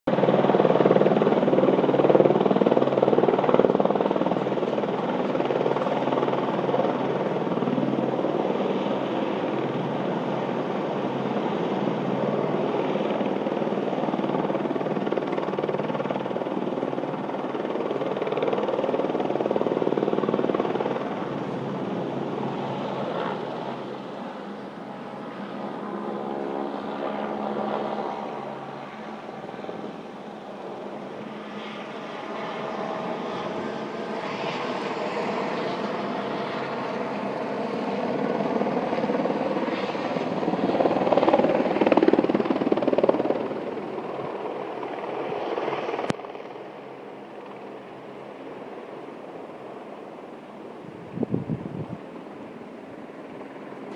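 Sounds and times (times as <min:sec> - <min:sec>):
helicopter rotor and engine: 0:00.1 - 0:53.9.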